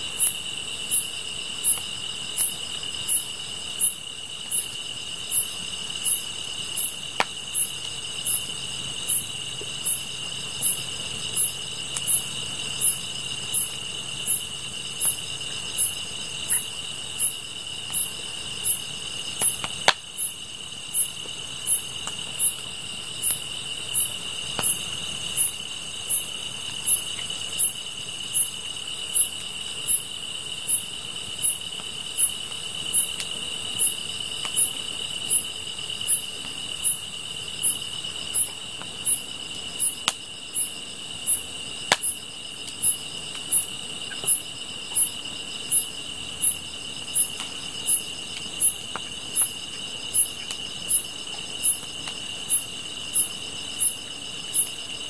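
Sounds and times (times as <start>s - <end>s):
high insect chirp: 0.0s - 55.0s
insects trilling: 0.0s - 55.0s.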